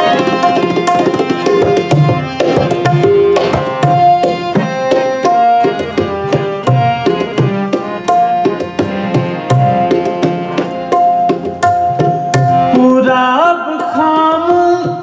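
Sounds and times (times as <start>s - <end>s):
tabla playing fast strokes: 0.0s - 13.2s
harmonium melody: 0.0s - 15.0s.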